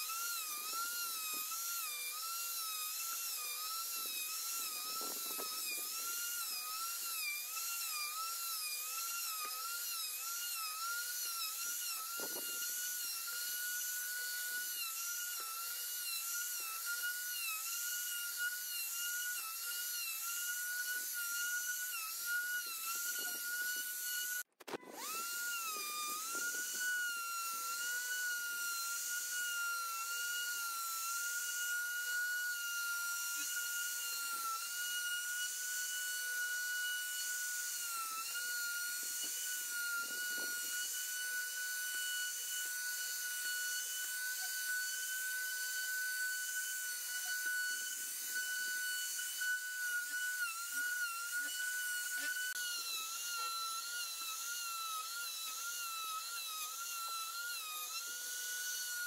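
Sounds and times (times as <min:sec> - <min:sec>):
router high whine: 0:00.0 - 0:59.0.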